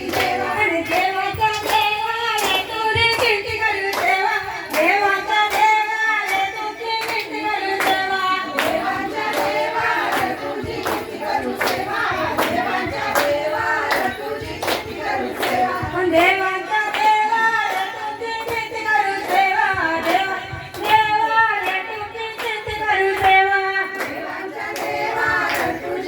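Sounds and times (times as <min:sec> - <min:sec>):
hand claps: 0:00.0 - 0:26.0
woman singing devotional song: 0:00.0 - 0:26.0.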